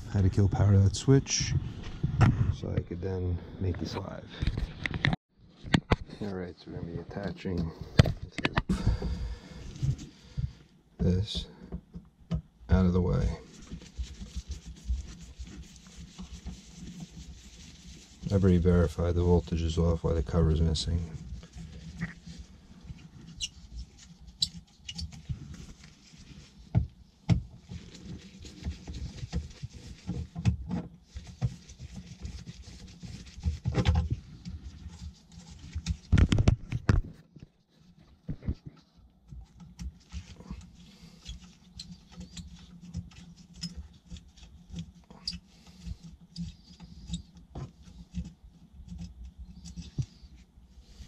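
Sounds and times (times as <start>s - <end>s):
clicks taps and scraping on wiring: 3.7s - 6.1s, 7.2s - 8.7s, 9.8s - 51.0s.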